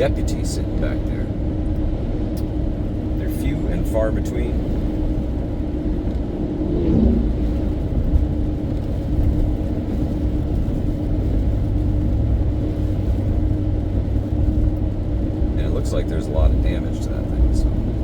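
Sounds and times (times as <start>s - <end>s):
car road and engine rumble: 0.0s - 18.0s
constant hum: 0.0s - 18.0s.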